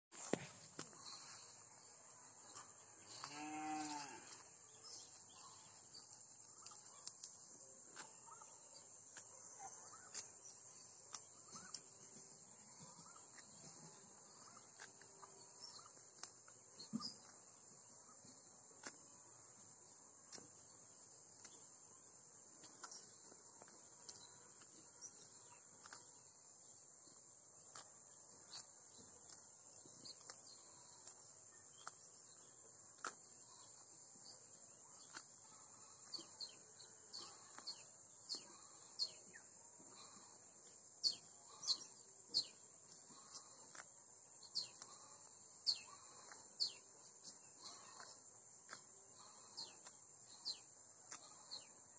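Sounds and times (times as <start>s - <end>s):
crickets and insects droning: 0.2s - 14.6s, 17.0s - 51.9s
insect chirps: 0.2s - 51.9s.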